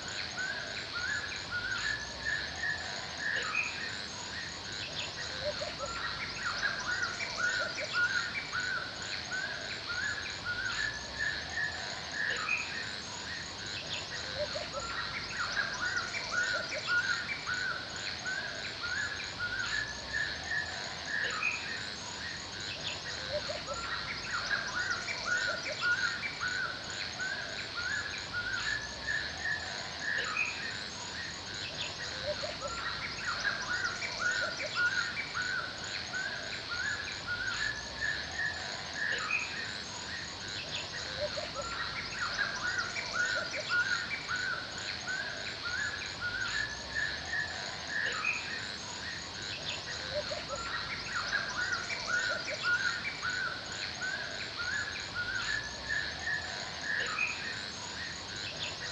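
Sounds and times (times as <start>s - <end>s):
birds chirping: 0.0s - 58.9s
steady background hiss: 0.0s - 58.9s.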